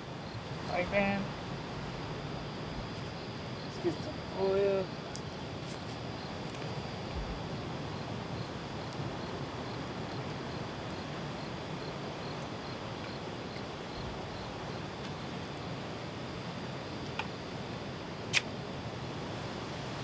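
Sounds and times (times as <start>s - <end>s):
constant rushing hiss: 0.0s - 20.0s
crickets chirping: 0.0s - 20.0s.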